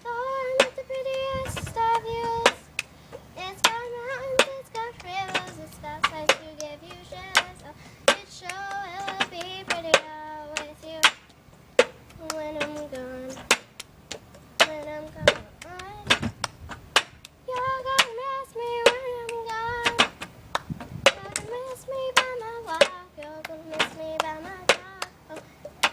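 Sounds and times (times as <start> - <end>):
high voice singing: 0.0 - 25.9
hand claps: 1.9 - 2.9, 3.6 - 18.2, 18.8 - 25.9.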